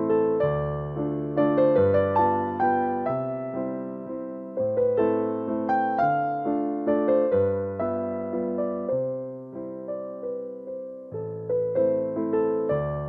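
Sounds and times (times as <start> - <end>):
gentle electric piano melody: 0.0 - 13.0.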